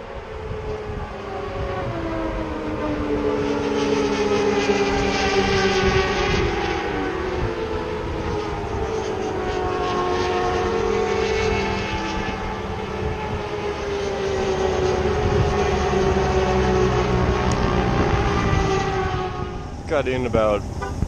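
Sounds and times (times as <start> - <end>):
rushing wind: 0.0 - 21.0.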